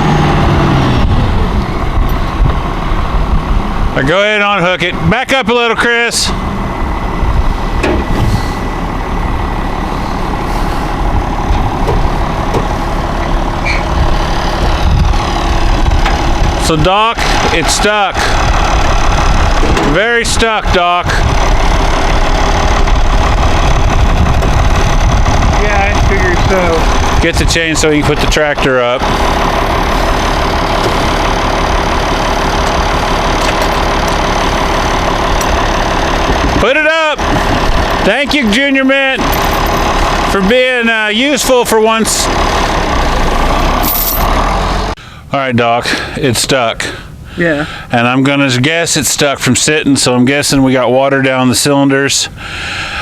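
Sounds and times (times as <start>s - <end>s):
tractor engine rumbling: 0.0s - 53.0s.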